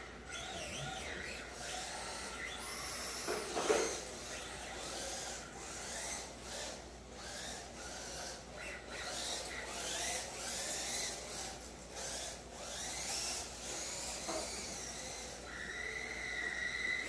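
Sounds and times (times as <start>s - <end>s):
rc car motor whine: 0.0s - 17.0s.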